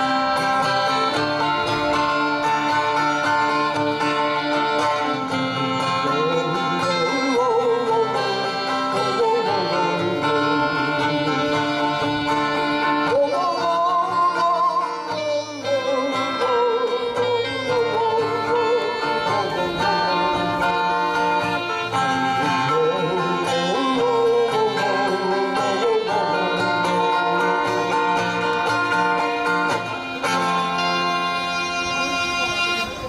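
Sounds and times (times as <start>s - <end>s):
acoustic guitar chords: 0.0s - 33.0s.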